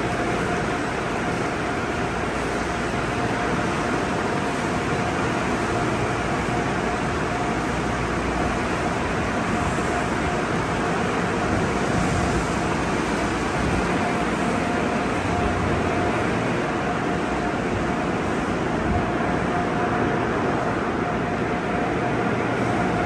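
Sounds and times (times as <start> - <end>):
car wash machinery: 0.0 - 23.0.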